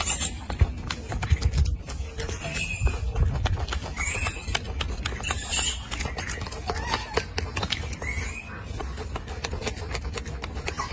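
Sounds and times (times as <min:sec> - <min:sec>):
scattered clicks: 0:00.0 - 0:10.9.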